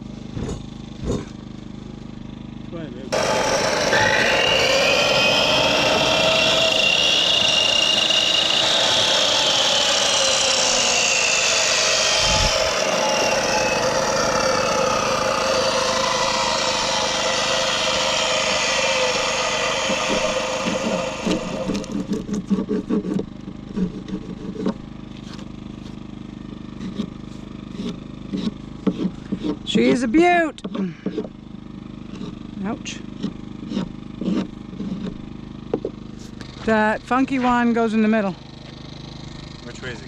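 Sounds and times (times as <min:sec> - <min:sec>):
engine running: 0:00.0 - 0:40.0.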